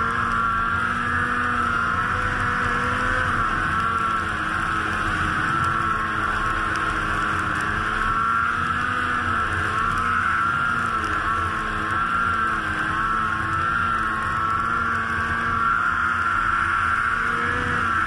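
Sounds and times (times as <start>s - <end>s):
snowmobile engine running at speed: 0.0s - 18.0s.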